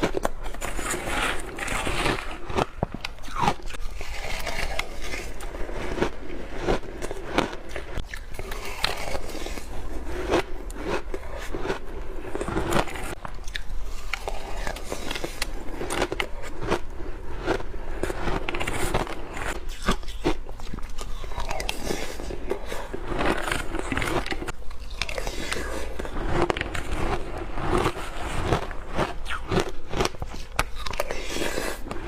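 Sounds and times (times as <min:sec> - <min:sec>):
ice crunching when bitten: 0:00.0 - 0:32.0.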